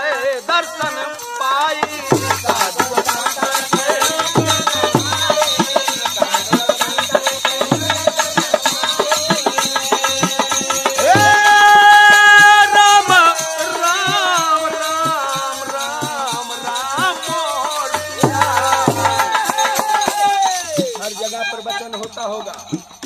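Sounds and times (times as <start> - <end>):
person singing: 0.0 - 21.7.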